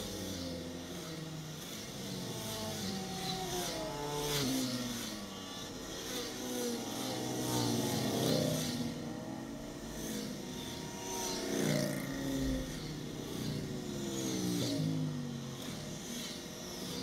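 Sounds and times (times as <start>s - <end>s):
motorcycles riding past: 0.0s - 17.0s.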